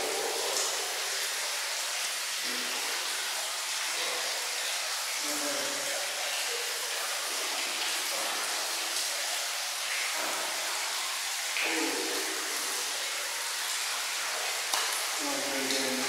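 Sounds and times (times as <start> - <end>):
running water hiss: 0.0 - 16.0.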